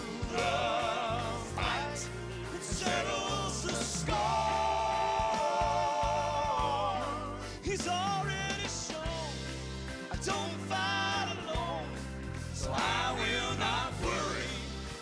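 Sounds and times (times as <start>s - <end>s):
live band accompaniment: 0.0s - 15.0s
male gospel quartet singing: 0.0s - 15.0s.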